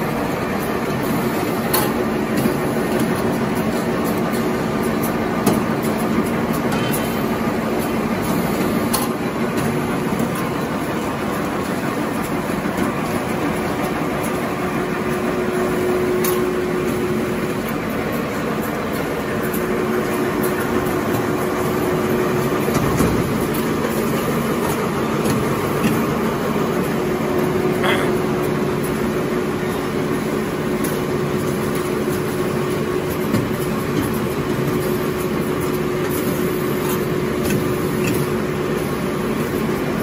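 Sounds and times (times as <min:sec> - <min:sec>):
production line machinery running: 0:00.0 - 0:40.0.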